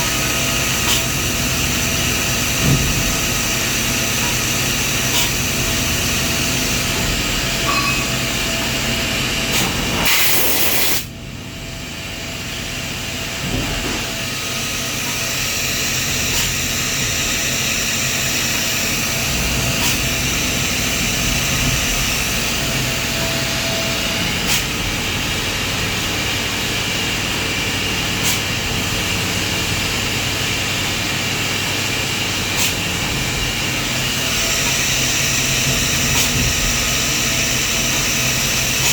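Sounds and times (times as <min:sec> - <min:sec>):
milling machine humming: 0:00.0 - 0:10.4, 0:11.1 - 0:38.9.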